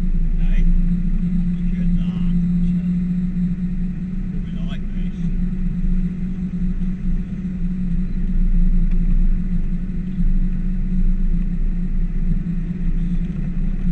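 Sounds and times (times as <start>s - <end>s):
car engine low drone: 0.0s - 13.9s.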